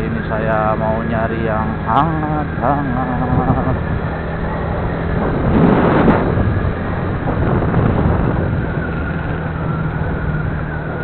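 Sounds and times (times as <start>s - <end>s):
vehicle engine humming: 0.0s - 11.0s
wind rushing over microphone: 0.0s - 11.0s.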